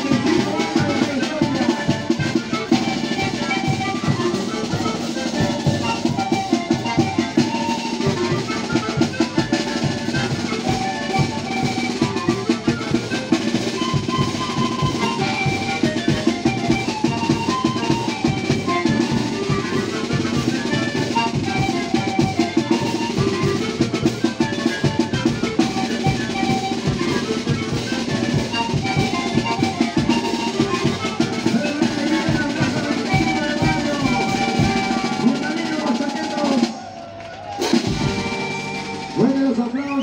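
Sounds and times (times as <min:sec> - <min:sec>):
panpipe band playing: 0:00.0 - 0:40.0.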